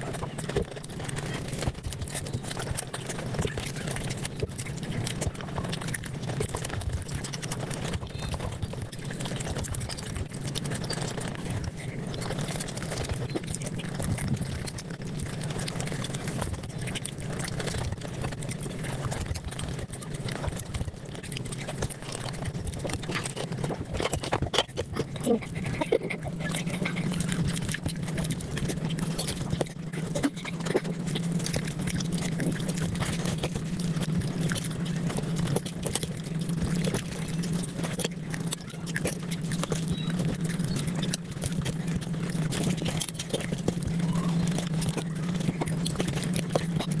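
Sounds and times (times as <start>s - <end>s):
sped-up eating sounds: 0.0s - 47.0s
steady low hum: 0.0s - 47.0s.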